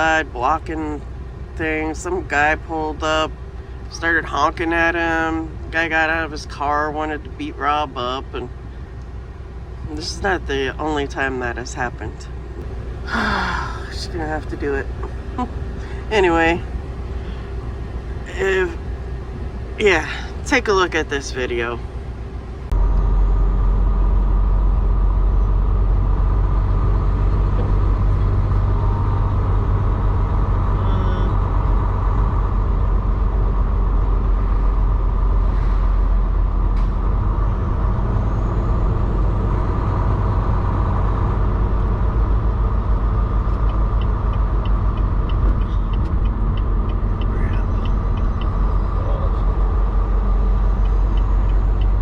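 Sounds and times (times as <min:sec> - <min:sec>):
road noise: 0:00.0 - 0:52.0
truck diesel engine rumble: 0:00.0 - 0:52.0.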